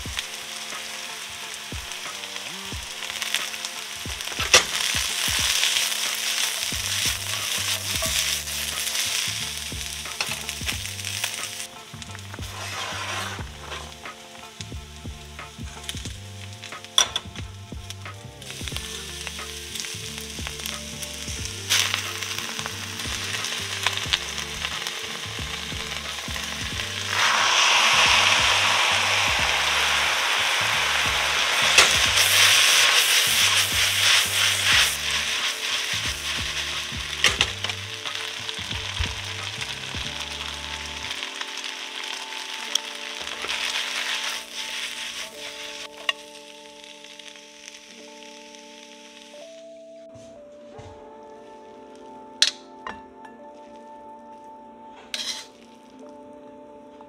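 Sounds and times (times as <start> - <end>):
vegetables sizzling in wok: 0.0 - 49.6, 55.1 - 55.8.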